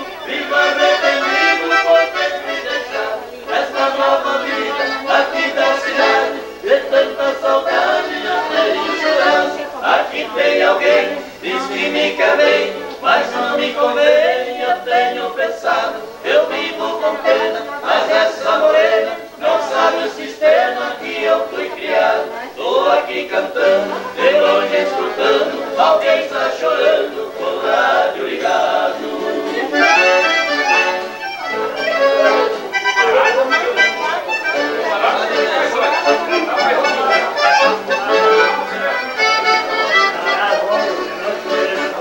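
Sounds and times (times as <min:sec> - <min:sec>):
accordion folk tune: 0:00.0 - 0:42.0.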